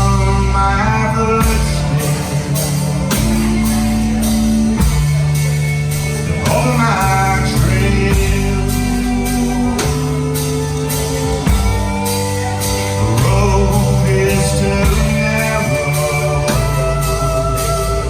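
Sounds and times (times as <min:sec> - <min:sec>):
drums beat: 0:00.0 - 0:18.0
rock band playing: 0:00.0 - 0:18.0
wavering lead guitar line: 0:00.0 - 0:18.0.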